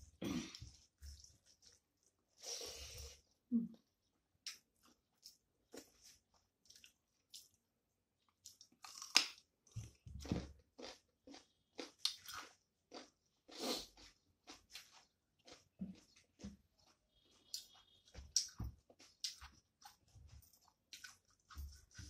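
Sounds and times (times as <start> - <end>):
person chewing: 0.1 - 2.5, 4.4 - 7.6, 8.2 - 22.0.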